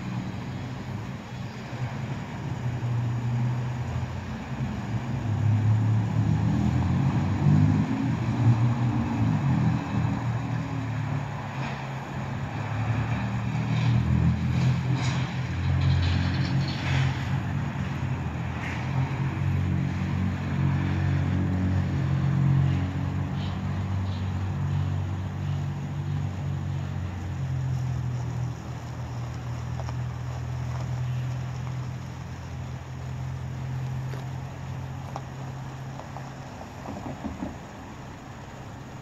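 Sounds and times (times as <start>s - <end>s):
diesel locomotive engine rumble: 0.0s - 39.0s.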